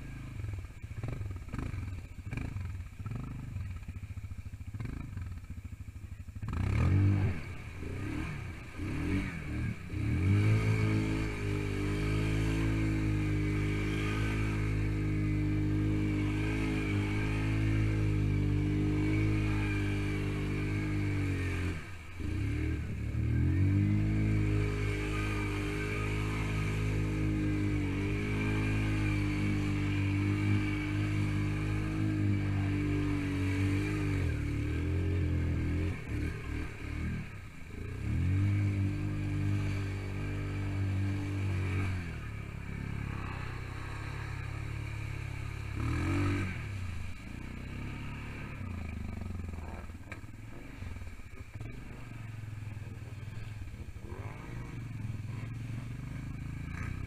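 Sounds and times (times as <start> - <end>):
atv engine labouring: 0.0 - 57.0.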